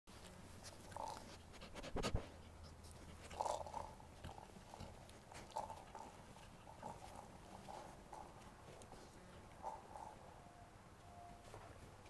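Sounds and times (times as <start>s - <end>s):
dog chewing: 0.2s - 10.2s.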